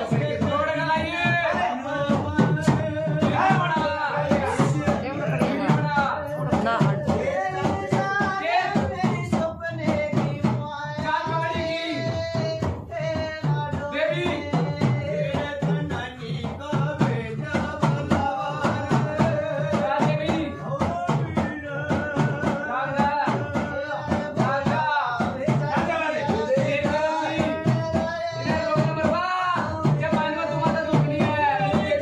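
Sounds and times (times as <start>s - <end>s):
hand drum beat: 0.0s - 32.0s
jingling percussion: 0.0s - 32.0s
men singing: 0.0s - 32.0s.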